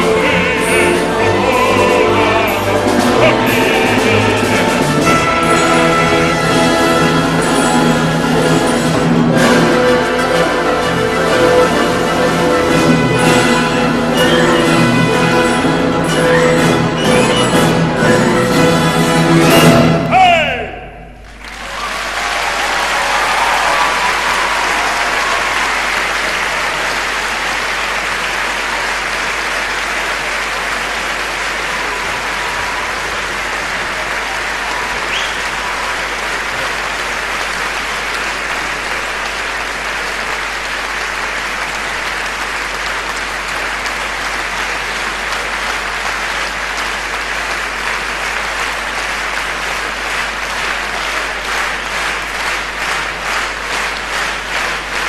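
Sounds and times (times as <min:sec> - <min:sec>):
large audience applauding: 0:00.0 - 0:19.1, 0:21.2 - 0:55.0.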